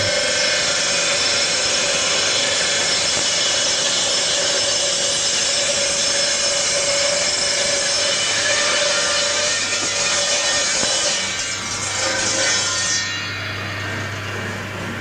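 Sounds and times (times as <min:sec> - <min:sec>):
bandsaw mill running: 0:00.0 - 0:15.0.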